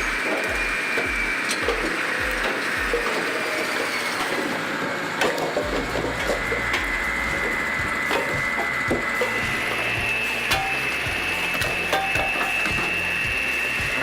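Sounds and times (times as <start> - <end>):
high machine whine: 0.0 - 14.0.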